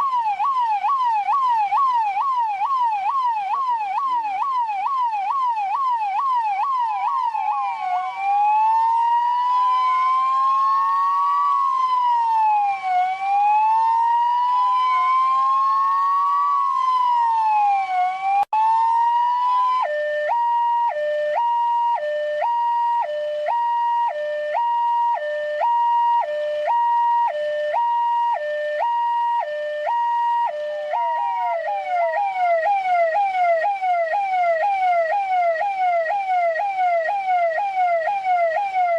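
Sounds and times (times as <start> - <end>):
police car siren: 0.0 - 38.9.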